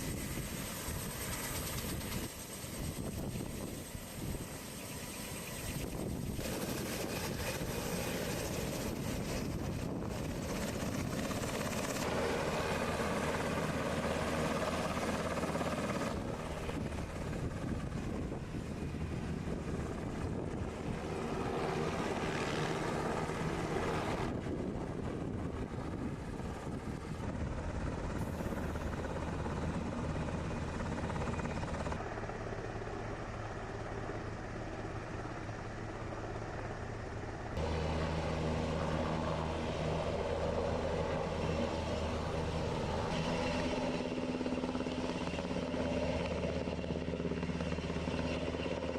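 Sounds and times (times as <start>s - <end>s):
helicopter turbine and rotor noise: 0.0s - 48.9s.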